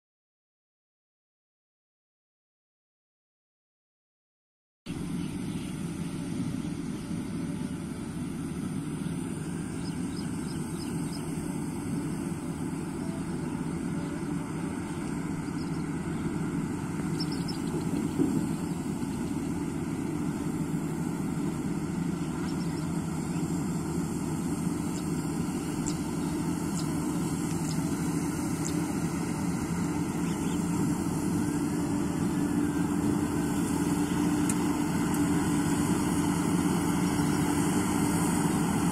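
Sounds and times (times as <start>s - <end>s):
combine harvester engine droning: 4.9s - 38.9s.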